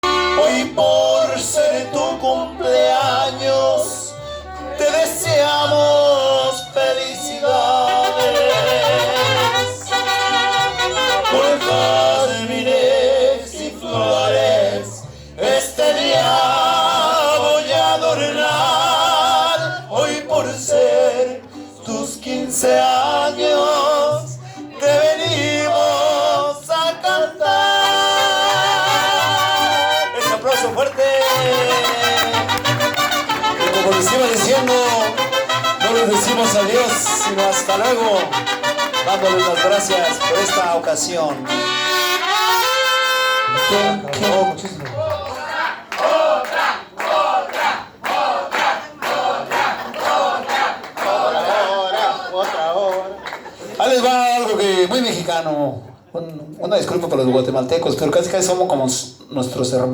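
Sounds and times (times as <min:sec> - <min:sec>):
latin tropical band music: 0:00.0 - 0:55.5.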